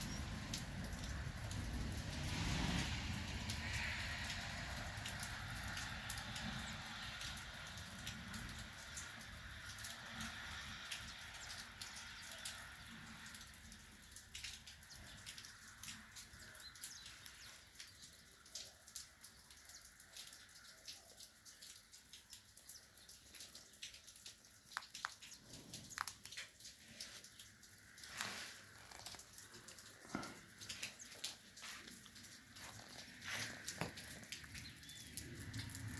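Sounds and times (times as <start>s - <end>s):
light rain hiss: 0.0s - 35.9s
water drips ticking: 0.0s - 35.9s.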